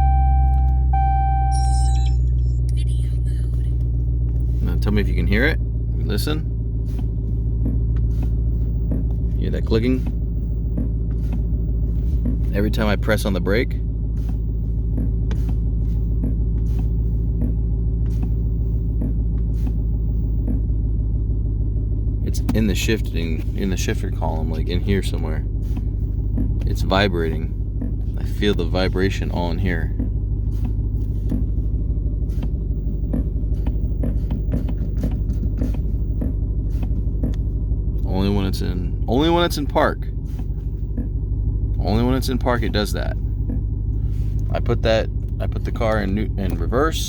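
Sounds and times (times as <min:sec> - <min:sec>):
car engine idling: 0:00.0 - 0:47.0
shifter clicking: 0:00.0 - 0:47.0.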